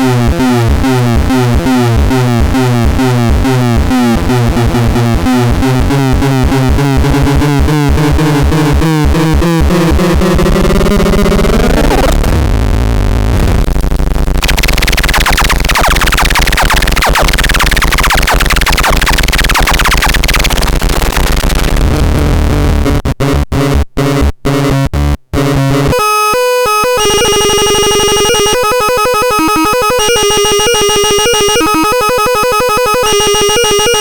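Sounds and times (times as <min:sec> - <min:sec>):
harsh synthesizer noise: 0:00.0 - 0:34.0.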